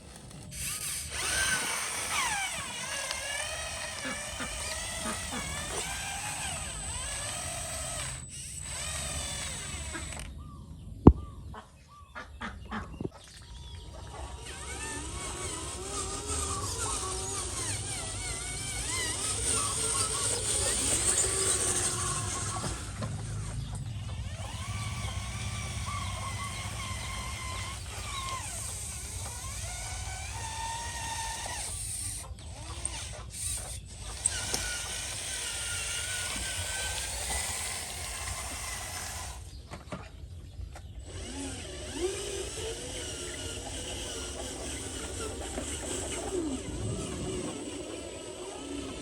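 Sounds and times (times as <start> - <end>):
small electric motors whining: 0.0 - 11.6, 12.5 - 49.0.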